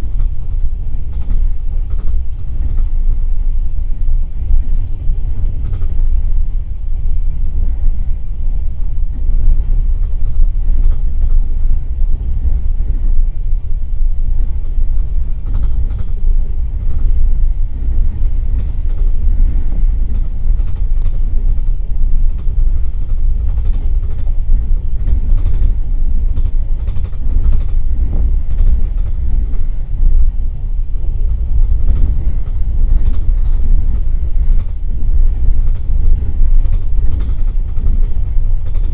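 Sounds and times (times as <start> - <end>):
railway coach rumbling on rails: 0.0 - 38.9.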